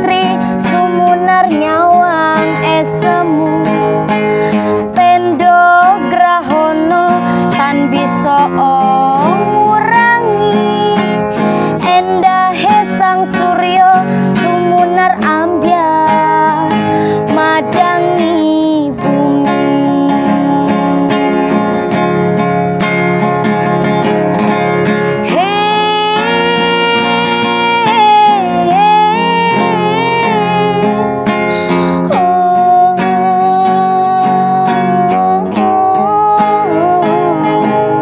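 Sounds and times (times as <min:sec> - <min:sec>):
woman singing a ballad: 0:00.0 - 0:22.2, 0:24.8 - 0:38.0
picked acoustic guitar: 0:00.0 - 0:38.0.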